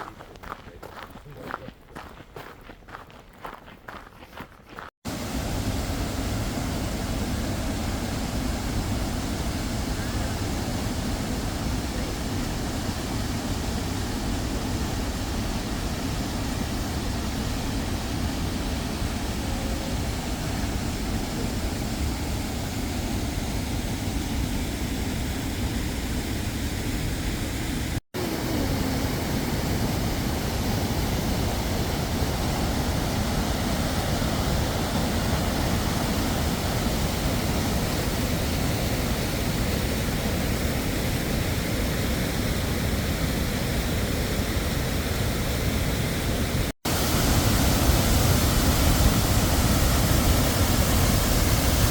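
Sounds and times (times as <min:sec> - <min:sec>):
waterfall roaring: 0:05.1 - 0:51.9.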